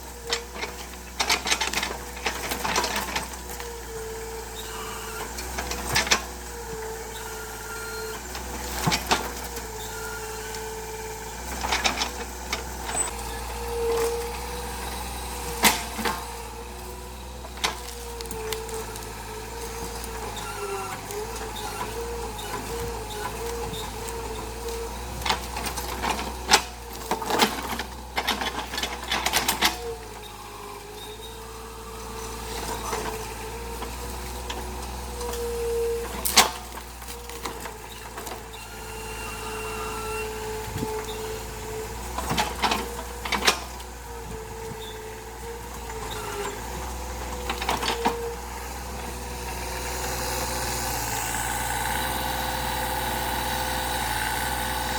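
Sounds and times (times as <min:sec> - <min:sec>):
excavator engine running: 0:00.0 - 0:54.9.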